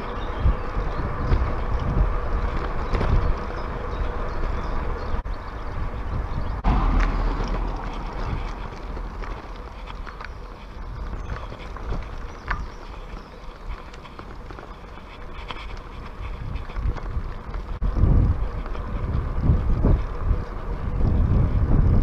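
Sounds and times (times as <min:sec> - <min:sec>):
bicycle tyres on tarmac: 0:00.0 - 0:22.0
bike clicks and rattles: 0:00.0 - 0:22.0
wind rumbling over microphone: 0:00.0 - 0:22.0.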